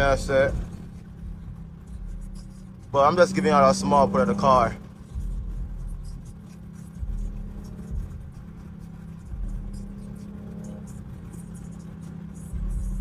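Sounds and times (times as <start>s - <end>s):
car engine hum: 0.0s - 13.0s
road rumble: 0.0s - 13.0s.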